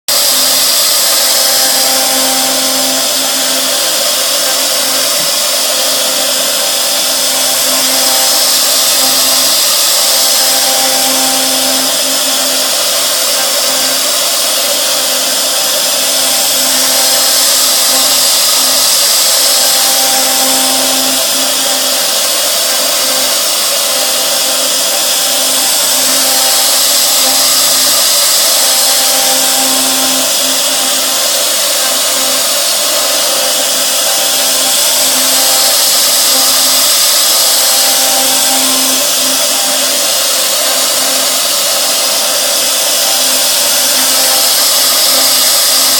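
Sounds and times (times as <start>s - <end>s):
cnc machine milling: 0.1s - 45.9s.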